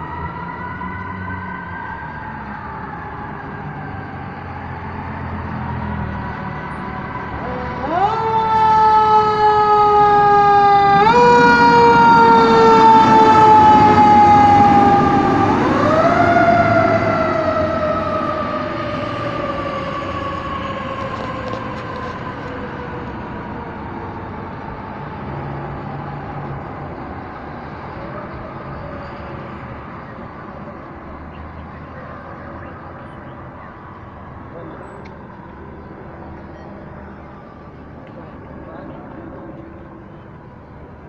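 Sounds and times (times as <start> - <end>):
engine rumble: 0.0 - 41.0
fainter siren: 0.0 - 41.0
fire truck siren wailing: 0.0 - 41.0.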